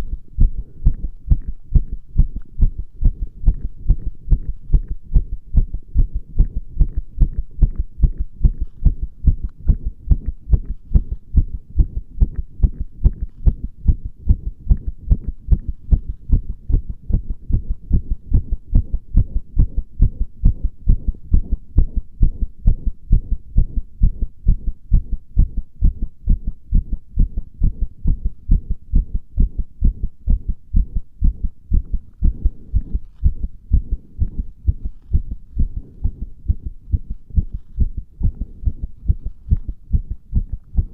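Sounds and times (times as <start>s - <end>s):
heartbeat thuds: 0.0s - 40.9s.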